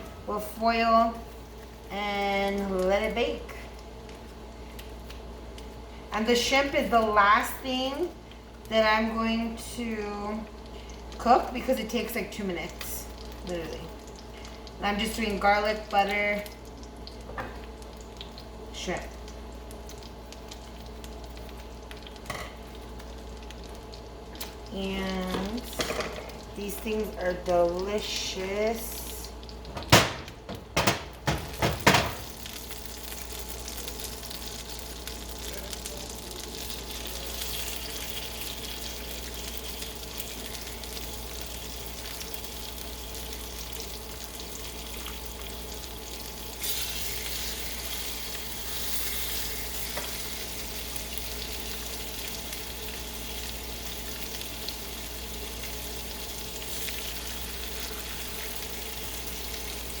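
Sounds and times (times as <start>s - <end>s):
fish sizzling in a pan: 0.6s - 29.7s, 31.3s - 60.0s.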